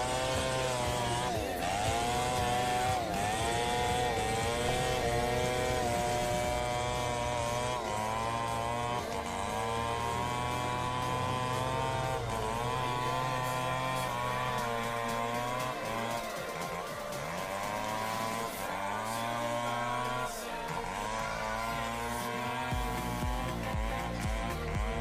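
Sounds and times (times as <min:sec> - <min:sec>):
chainsaw cutting log: 0:00.0 - 0:25.0.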